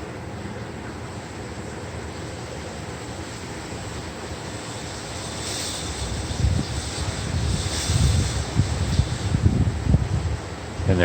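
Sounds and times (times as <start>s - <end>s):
wind and rain storm: 0.0s - 11.0s.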